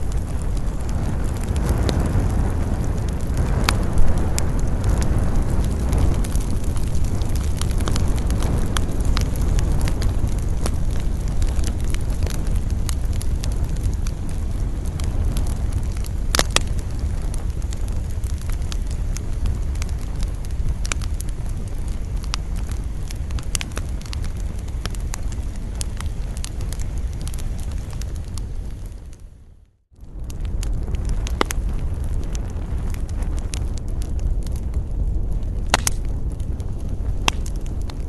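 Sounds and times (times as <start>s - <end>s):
campfire crackling and popping: 0.0s - 38.0s
low rumble of wind: 0.0s - 38.0s.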